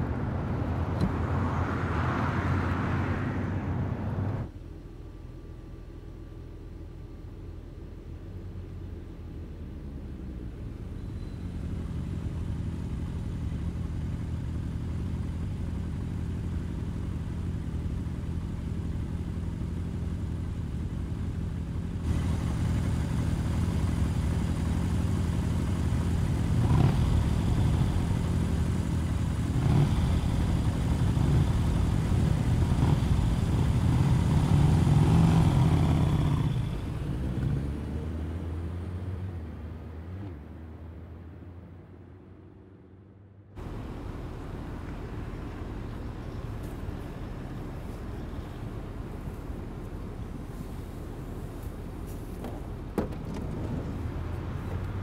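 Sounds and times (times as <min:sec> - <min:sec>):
traffic noise: 0:00.0 - 0:55.0
vehicle engine rumble: 0:00.0 - 0:55.0.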